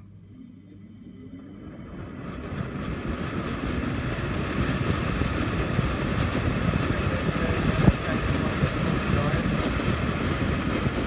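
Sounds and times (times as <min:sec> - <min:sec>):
exhaust fan rushing air: 0:00.0 - 0:11.0.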